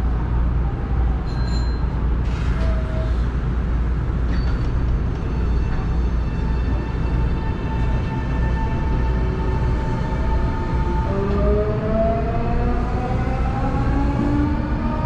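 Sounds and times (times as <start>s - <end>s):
low hum inside train cab: 0.0s - 15.0s.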